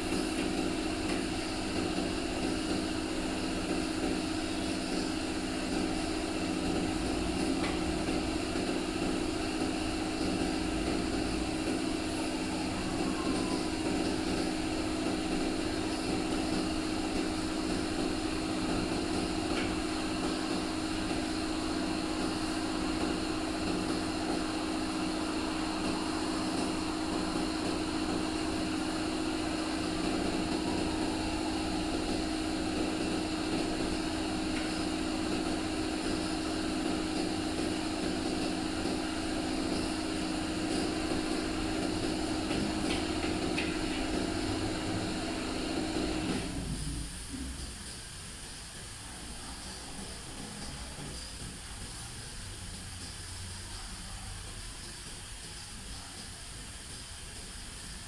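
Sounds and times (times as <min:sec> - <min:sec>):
machine humming: 0:00.0 - 0:52.0
even hiss: 0:00.0 - 0:58.0.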